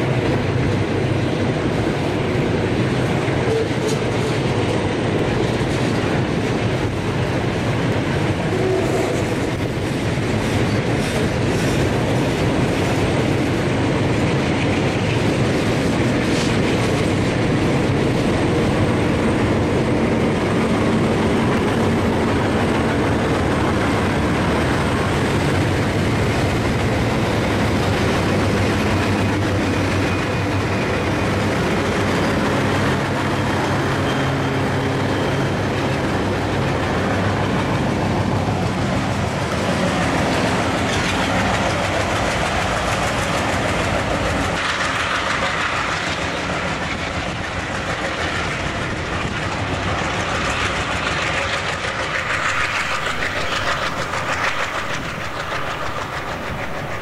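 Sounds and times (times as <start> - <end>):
diesel locomotive engines: 0.0 - 57.0
train wheels clicking over rail joints: 0.0 - 57.0.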